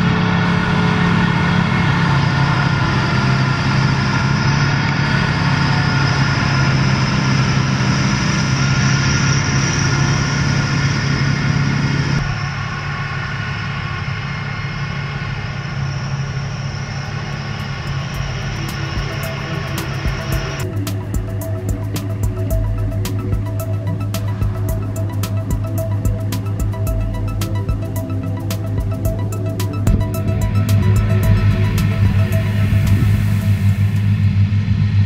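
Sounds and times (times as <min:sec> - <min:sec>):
harvester engine hum: 0:00.0 - 0:35.0.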